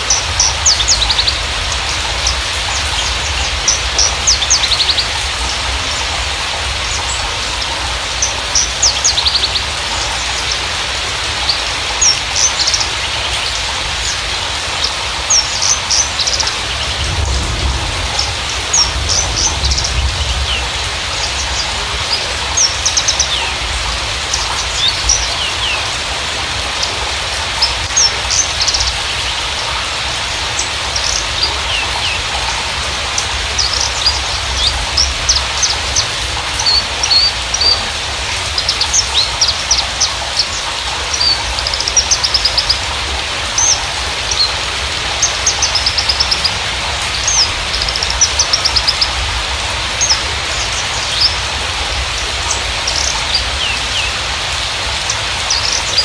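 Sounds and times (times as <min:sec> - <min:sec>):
bird chirping and trilling: 0:00.0 - 0:56.0
steady hiss: 0:00.0 - 0:56.0.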